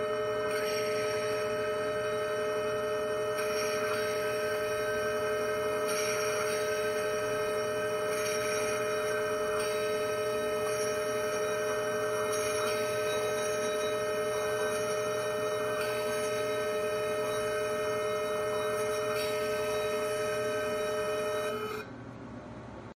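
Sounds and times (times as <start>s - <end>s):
steady high tone: 0.0s - 21.9s.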